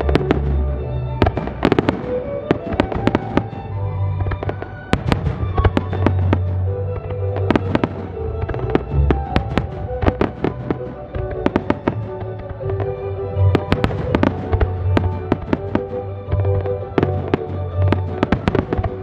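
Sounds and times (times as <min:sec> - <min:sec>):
fireworks bursting: 0:00.0 - 0:19.0
music playing: 0:00.0 - 0:19.0.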